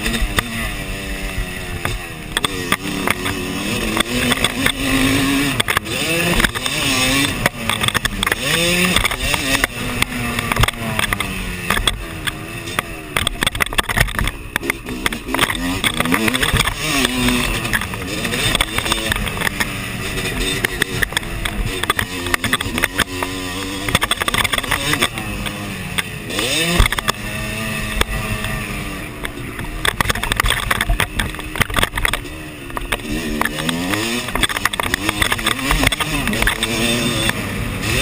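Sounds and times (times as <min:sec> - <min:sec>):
dirt bike engine revving: 0:00.0 - 0:38.0
knocks from rough track: 0:01.8 - 0:38.0.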